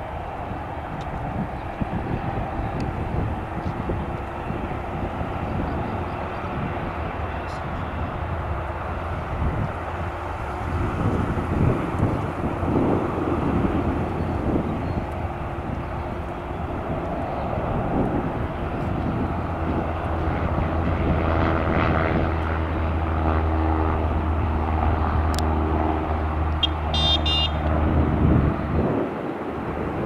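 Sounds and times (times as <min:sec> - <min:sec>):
jet engines idling: 0:00.0 - 0:30.0
propeller aircraft droning: 0:00.0 - 0:30.0.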